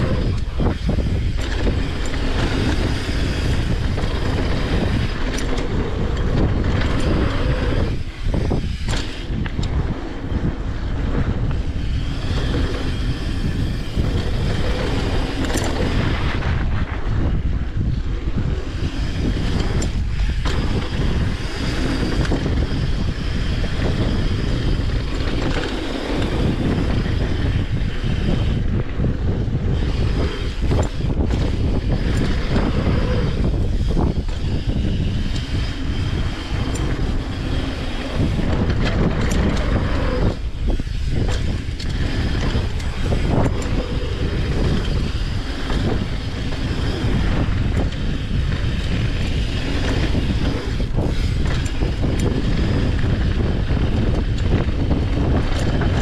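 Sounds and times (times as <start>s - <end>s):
bike rattles and clicks: 0.0s - 56.0s
wind on microphone: 0.0s - 56.0s.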